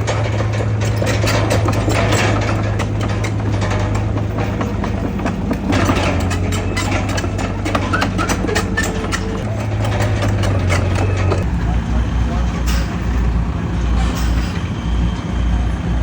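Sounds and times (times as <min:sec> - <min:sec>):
metallic clanks and rattles: 0:00.0 - 0:14.9
heavy diesel engine running: 0:00.0 - 0:16.0.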